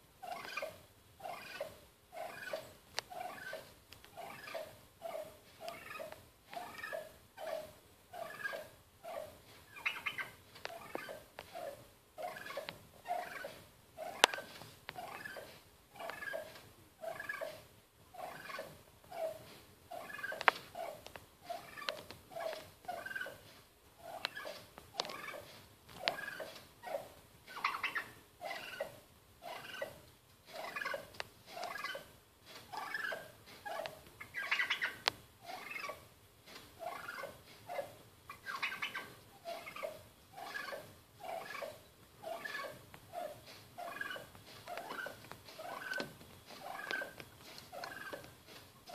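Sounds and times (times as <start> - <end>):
turkey making rolling calls: 0.2 - 23.4, 24.0 - 32.1, 32.7 - 36.1, 36.8 - 48.3.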